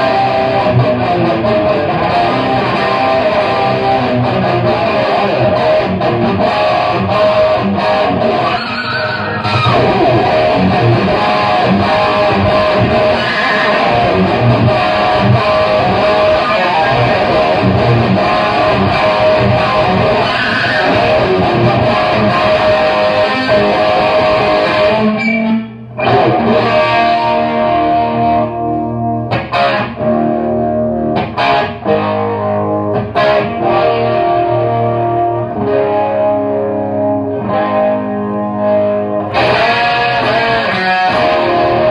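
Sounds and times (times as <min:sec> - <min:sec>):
overdriven electric guitar: 0:00.0 - 0:41.9.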